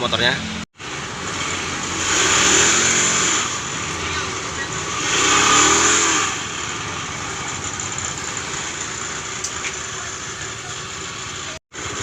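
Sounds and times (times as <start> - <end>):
scooter engine revving and idling: 0.2 - 12.0.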